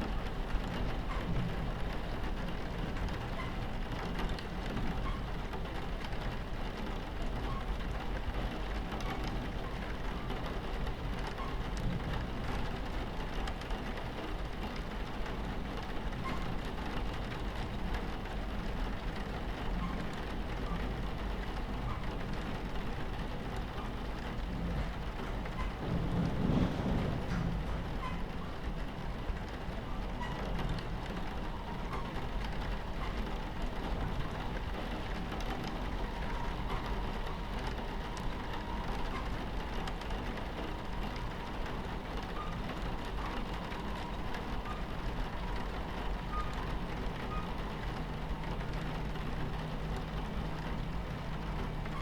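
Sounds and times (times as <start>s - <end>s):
rain on a train window: 0.0s - 52.0s
train rumbling on tracks: 0.0s - 52.0s.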